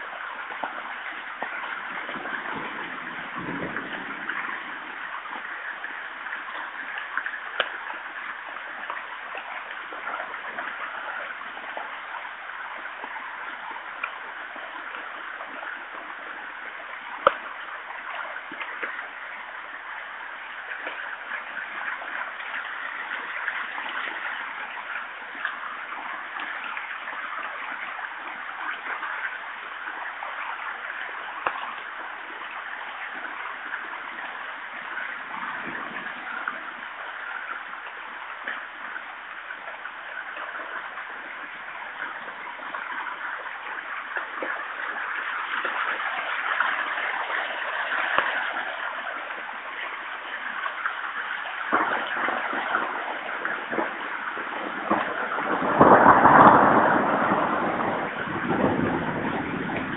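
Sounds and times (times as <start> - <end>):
heavy rain on foliage: 0.0 - 59.9.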